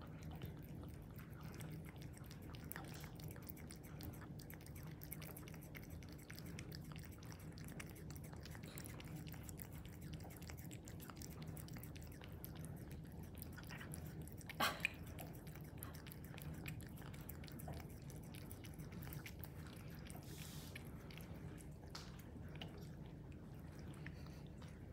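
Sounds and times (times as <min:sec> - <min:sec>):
cat licking wet tongue clicks: 0:00.0 - 0:24.8
low steady hum: 0:00.0 - 0:24.9.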